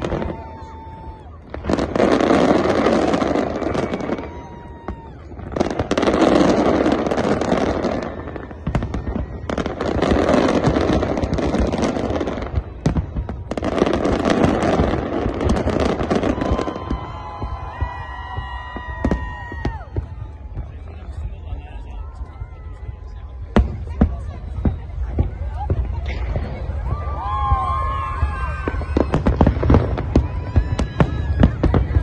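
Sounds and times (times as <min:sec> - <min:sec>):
fireworks banging and crackling: 0:00.0 - 0:32.0.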